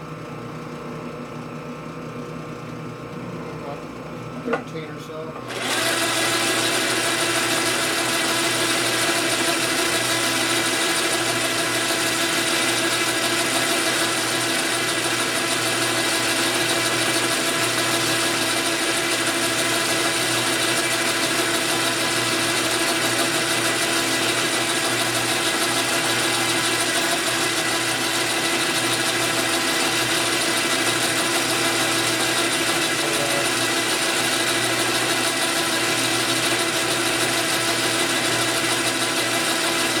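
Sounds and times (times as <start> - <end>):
lathe running: 3.1 - 40.0.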